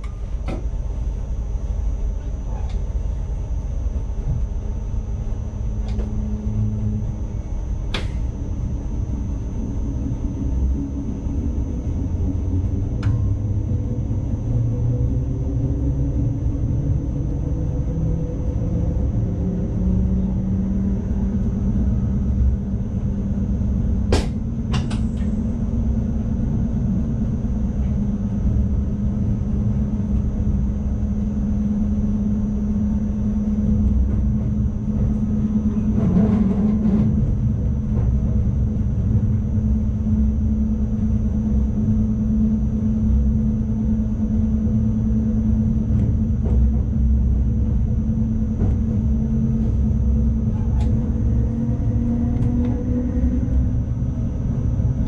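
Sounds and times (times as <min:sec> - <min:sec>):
train wheels rumbling on track: 0:00.0 - 0:10.6, 0:11.6 - 0:55.0
low electric hum: 0:00.0 - 0:55.0.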